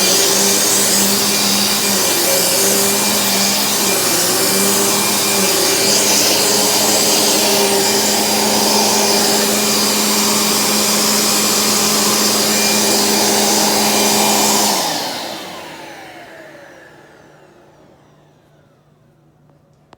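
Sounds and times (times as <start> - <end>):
vacuum cleaner motor running: 0.0 - 19.2.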